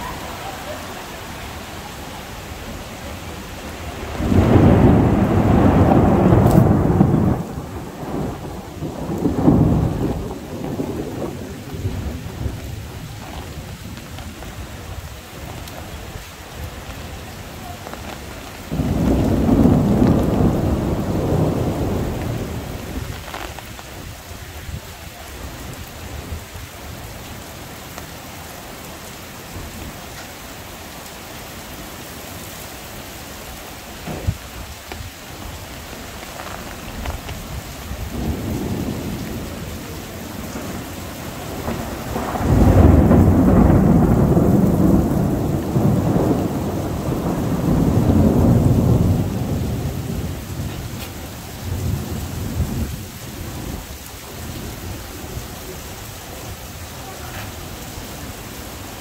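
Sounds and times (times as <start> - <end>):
thunder rumbling: 0.0 - 27.8, 33.7 - 59.0
heavy rain falling: 0.0 - 59.0.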